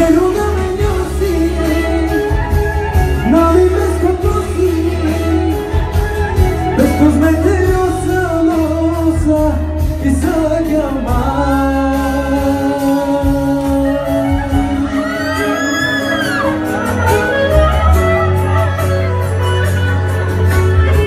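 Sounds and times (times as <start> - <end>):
man singing into microphone: 0.0 - 17.6
pop backing track with bass beat: 0.0 - 21.0.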